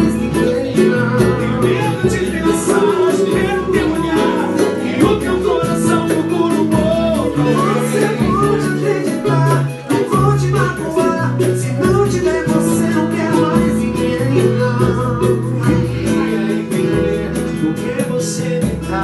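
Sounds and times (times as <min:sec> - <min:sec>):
bass and drum beat: 0:00.0 - 0:19.0
keyboard: 0:00.0 - 0:19.0
man singing lead vocal: 0:00.0 - 0:19.0
strummed guitar: 0:00.0 - 0:19.0.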